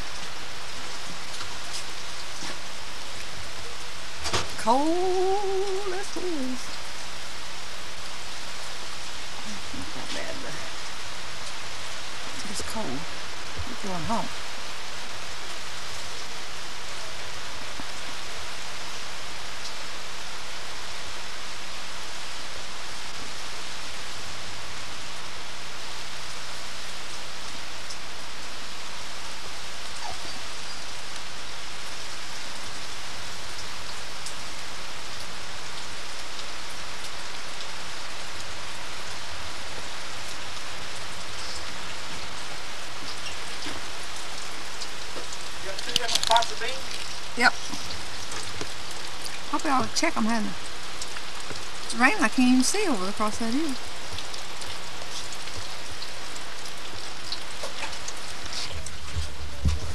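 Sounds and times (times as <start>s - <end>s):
rain falling on trees and leaves: 0.0s - 59.9s.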